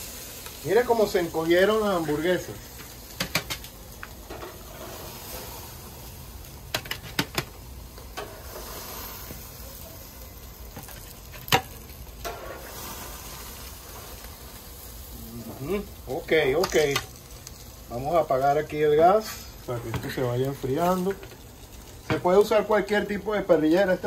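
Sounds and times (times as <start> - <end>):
grill hissing: 0.0 - 24.0.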